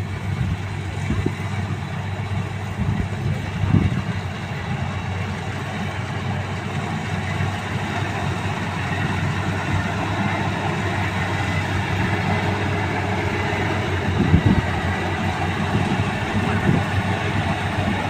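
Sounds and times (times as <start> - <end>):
combine harvester drone: 0.0 - 18.0.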